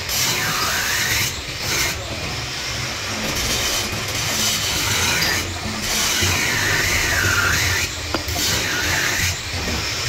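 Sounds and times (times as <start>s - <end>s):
angle grinder grinding steel: 0.0s - 10.0s.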